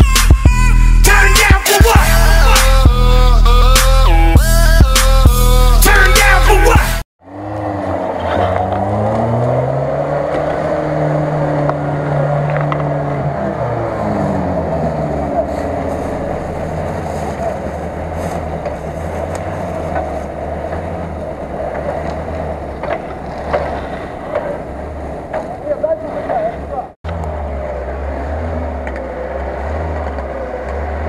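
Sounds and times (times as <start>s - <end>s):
off-road vehicle engine revving: 0.0s - 31.0s.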